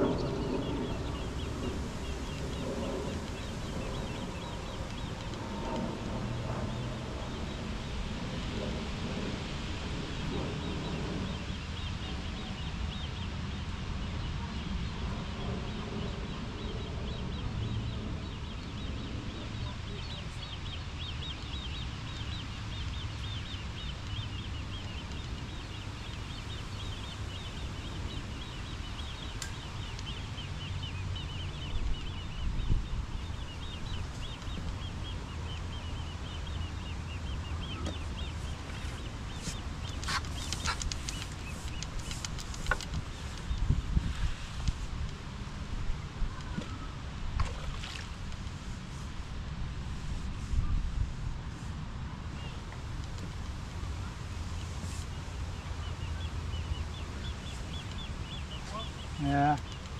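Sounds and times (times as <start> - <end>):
small birds chirping: 0.0 - 48.9, 52.2 - 59.9
wind rumble on microphone: 0.0 - 59.9.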